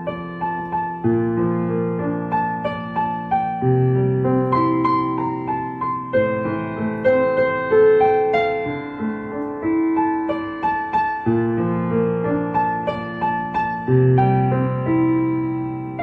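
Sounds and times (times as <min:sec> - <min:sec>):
calm keyboard music: 0:00.0 - 0:16.0.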